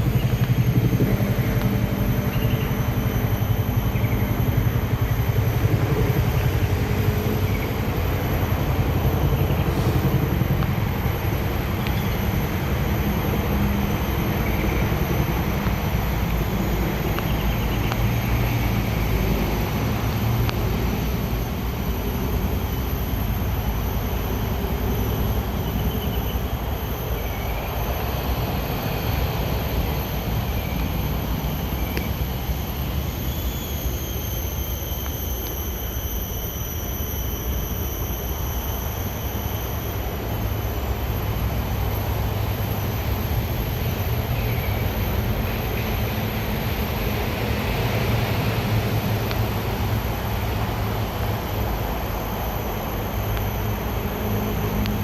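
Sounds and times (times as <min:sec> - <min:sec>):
low rumbling noise with hiss: 0:00.0 - 0:55.0.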